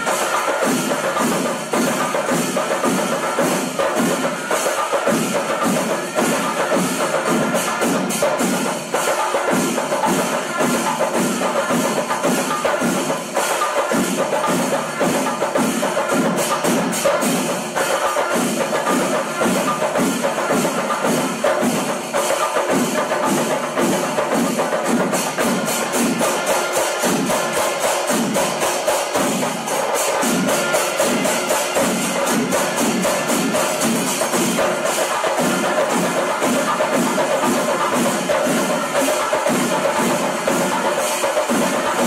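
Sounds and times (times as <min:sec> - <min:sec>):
music with fast percussion beat: 0:00.0 - 0:42.0.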